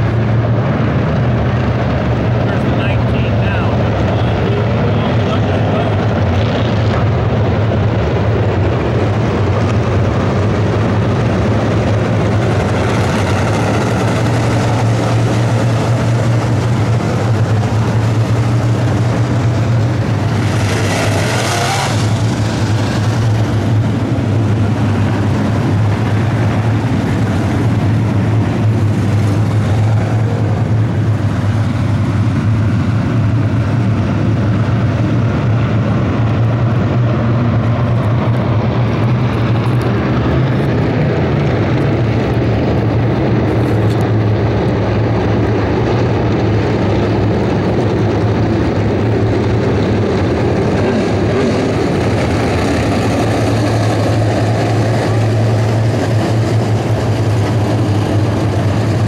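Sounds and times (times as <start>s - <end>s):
race car engines droning: 0.0s - 59.0s.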